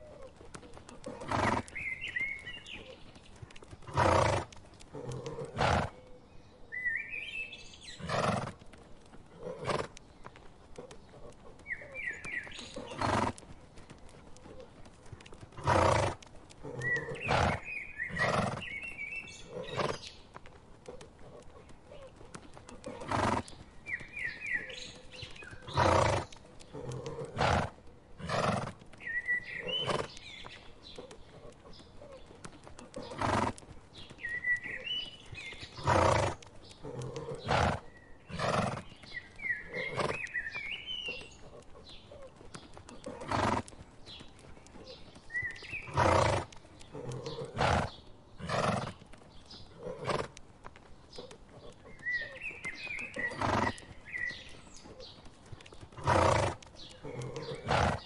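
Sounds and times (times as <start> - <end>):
horses grazing noises: 0.0 - 58.0
small birds chirping: 0.0 - 58.0.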